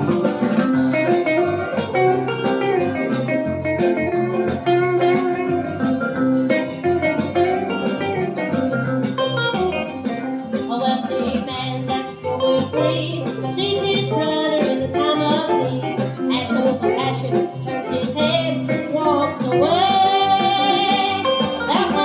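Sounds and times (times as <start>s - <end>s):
instrumental gospel music: 0.0s - 22.0s
plucked guitar lead: 0.0s - 22.0s.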